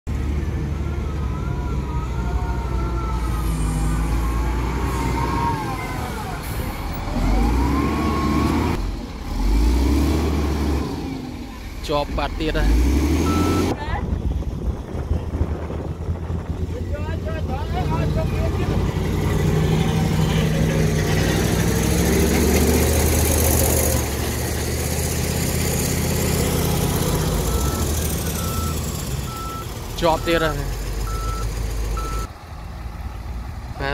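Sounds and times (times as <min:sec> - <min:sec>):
heavy diesel engine rumble: 0:00.1 - 0:33.9.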